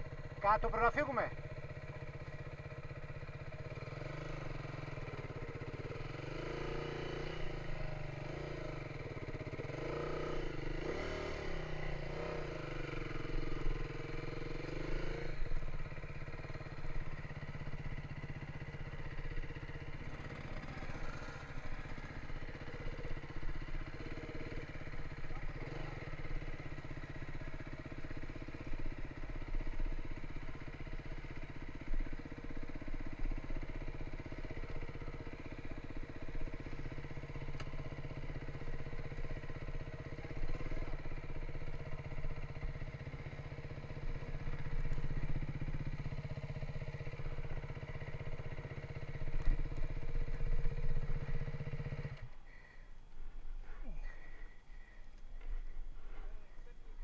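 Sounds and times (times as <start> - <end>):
motorcycle engine at low revs: 0.0 - 57.0.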